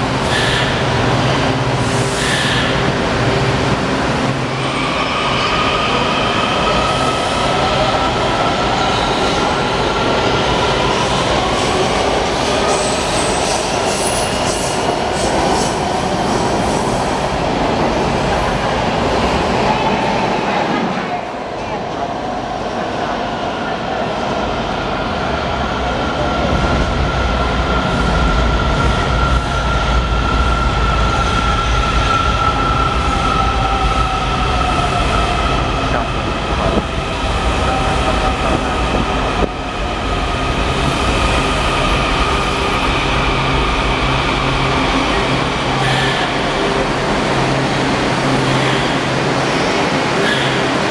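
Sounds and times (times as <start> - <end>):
subway train rumble and motor whine: 0.0 - 50.9.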